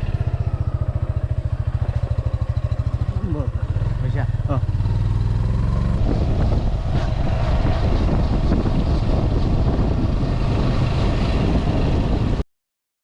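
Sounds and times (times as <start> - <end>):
motor vehicle running: 0.0 - 12.4
wind buffeting microphone: 0.0 - 12.4.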